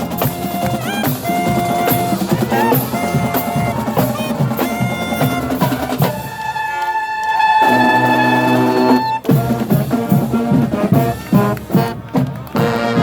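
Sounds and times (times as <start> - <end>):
snare and bass drums playing: 0.0 - 6.6, 7.7 - 13.0
horns holding long notes: 0.0 - 13.0.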